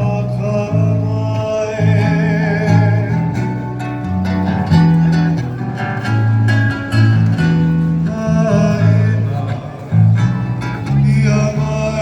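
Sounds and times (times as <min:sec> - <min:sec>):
strummed acoustic guitar: 0:00.0 - 0:12.0
walking bass line: 0:00.0 - 0:12.0.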